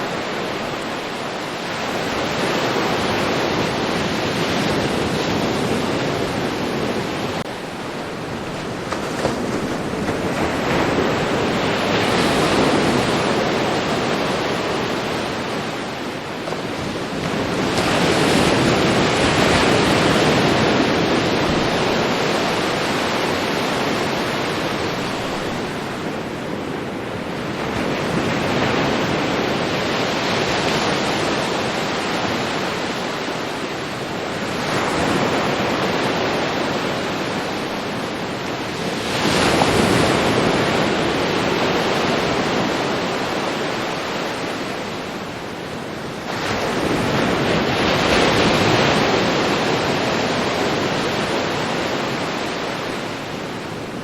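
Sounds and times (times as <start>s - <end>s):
ocean surf washing onto beach: 0.0s - 54.0s
waves breaking: 0.0s - 54.0s.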